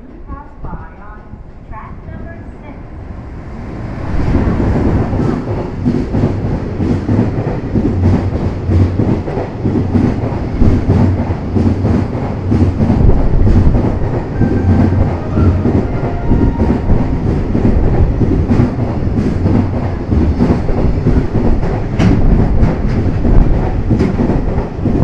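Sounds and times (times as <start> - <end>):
electric locomotive passing: 0.2 - 23.8.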